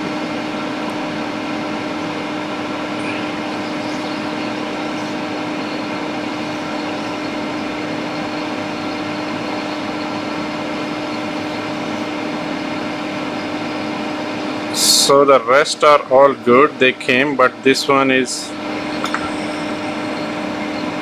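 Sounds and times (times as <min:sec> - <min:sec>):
constant hum tone: 0:00.0 - 0:21.0
small electric fan whirring: 0:00.0 - 0:21.0.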